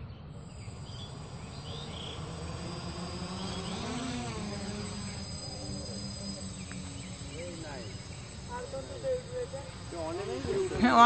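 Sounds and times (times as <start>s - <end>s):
quadcopter propellers buzzing: 0.2s - 11.0s.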